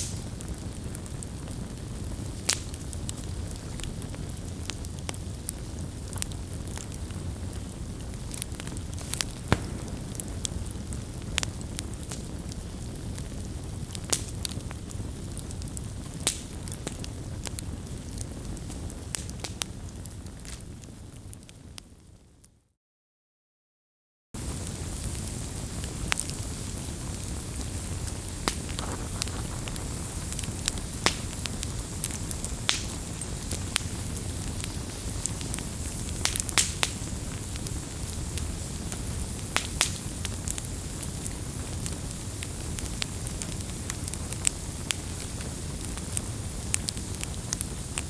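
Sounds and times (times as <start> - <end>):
burning wood crackling: 0.0 - 21.6, 24.4 - 48.0
campfire flames rumbling: 0.0 - 22.2, 24.4 - 48.0.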